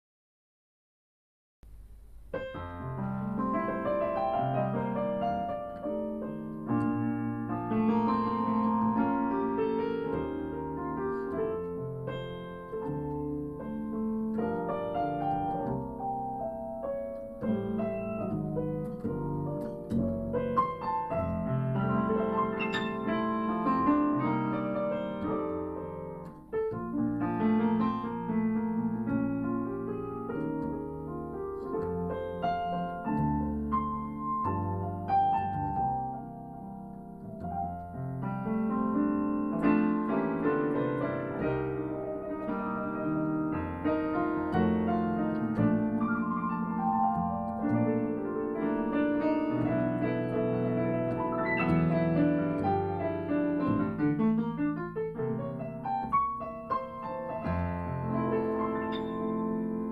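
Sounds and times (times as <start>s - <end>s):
piano melody and chords: 1.7s - 59.9s.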